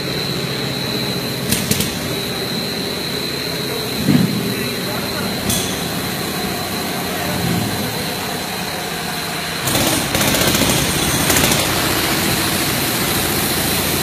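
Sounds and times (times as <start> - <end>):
production line machine noise: 0.0 - 14.0
thin high whine: 0.0 - 14.0.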